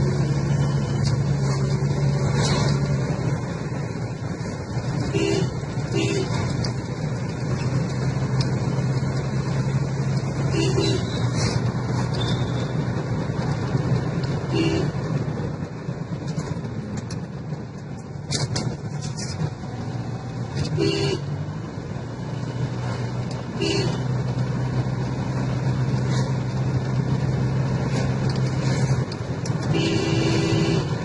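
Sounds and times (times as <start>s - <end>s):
car engine hum: 0.0s - 31.0s
road noise: 0.0s - 31.0s.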